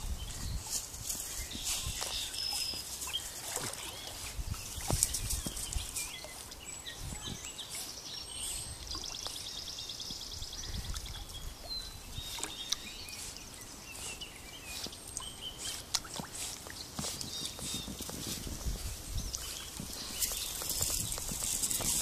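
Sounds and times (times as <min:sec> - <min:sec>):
birds chirping: 0:00.0 - 0:22.0
dog paddling in water: 0:01.5 - 0:08.0, 0:10.7 - 0:22.0.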